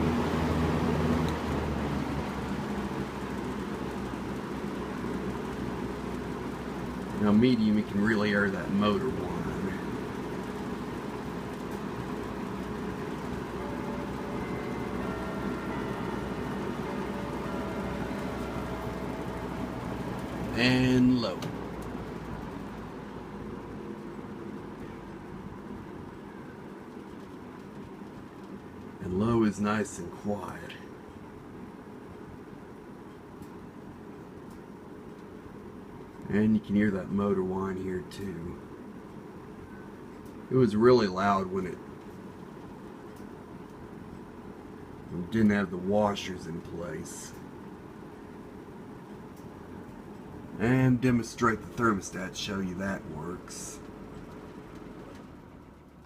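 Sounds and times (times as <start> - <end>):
box fan running: 0.0 - 56.0.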